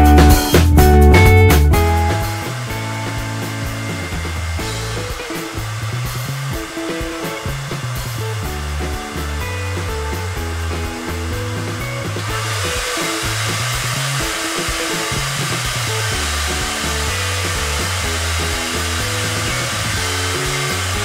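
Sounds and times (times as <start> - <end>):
background music: 0.0 - 21.0
hair dryer blowing: 1.8 - 21.0.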